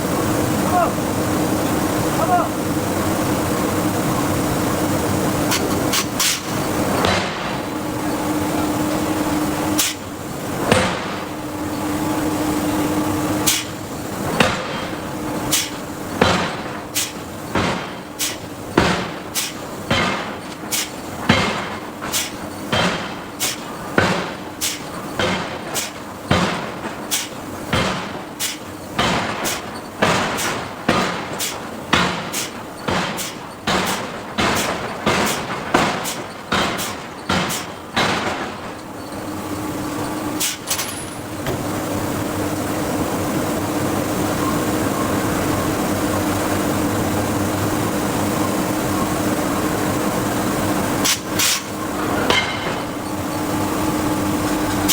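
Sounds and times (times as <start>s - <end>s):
steady machine hum: 0.0s - 29.4s, 30.2s - 54.9s.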